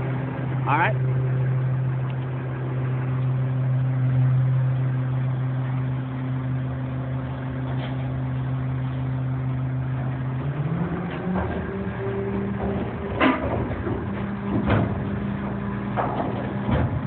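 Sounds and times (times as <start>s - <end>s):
diesel truck engine humming: 0.0s - 17.0s.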